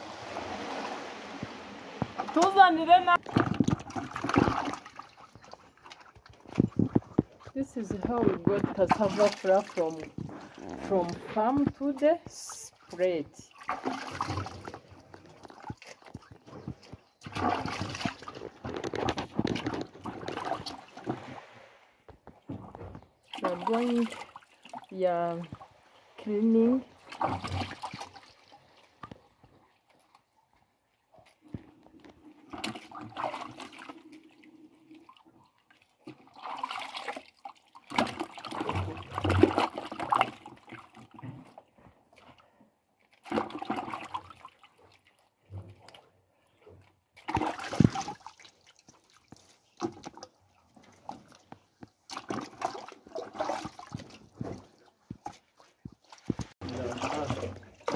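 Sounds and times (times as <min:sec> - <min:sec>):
water sloshing in a plastic bucket: 0:00.0 - 0:57.9.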